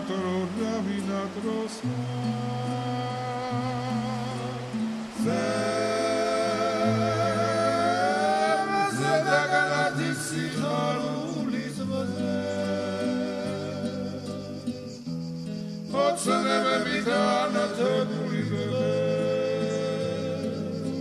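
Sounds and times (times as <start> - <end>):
person singing slow melody: 0.0 - 21.0.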